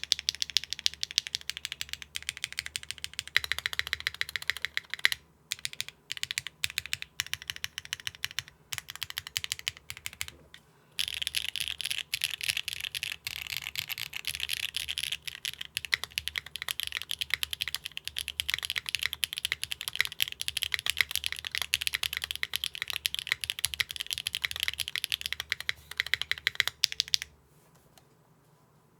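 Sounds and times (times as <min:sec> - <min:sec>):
mechanical keyboard typing: 0:00.0 - 0:10.4, 0:11.0 - 0:27.3.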